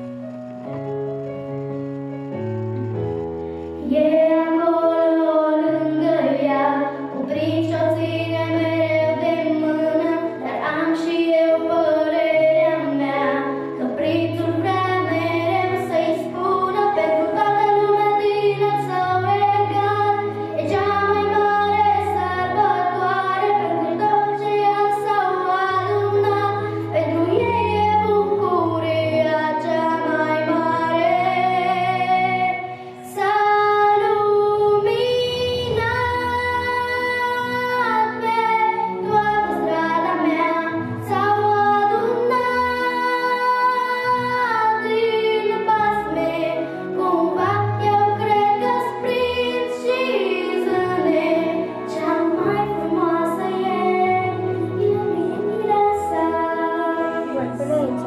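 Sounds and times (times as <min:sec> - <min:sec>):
girl singing into microphone: 0:03.8 - 0:58.0.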